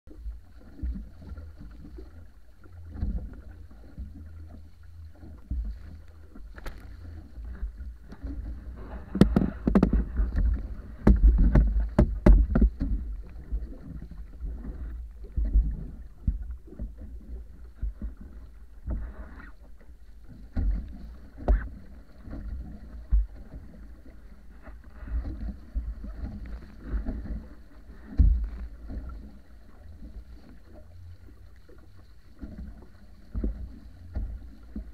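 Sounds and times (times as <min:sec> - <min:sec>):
water splashing along hull: 0:00.1 - 0:34.9.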